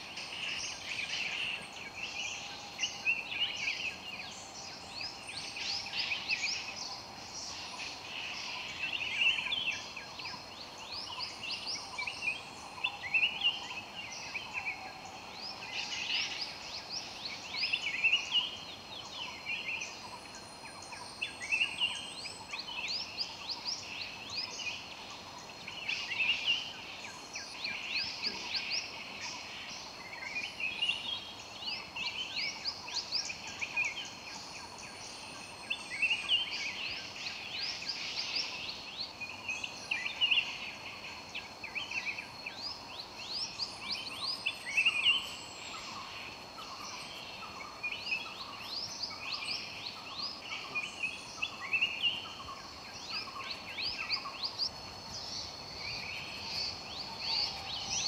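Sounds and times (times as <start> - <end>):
birds singing: 0.0 - 58.0
high insect drone: 0.0 - 58.0.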